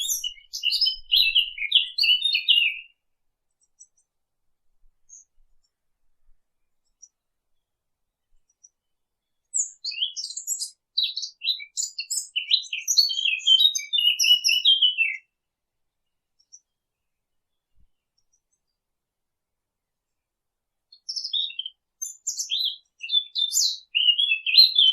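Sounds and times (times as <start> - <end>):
songbird singing chirps and trills: 0.0 - 24.9.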